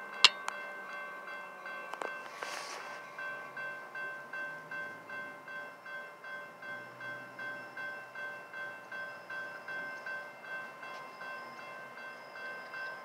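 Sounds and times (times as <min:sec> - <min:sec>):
railroad crossing bell ringing: 0:00.0 - 0:13.0.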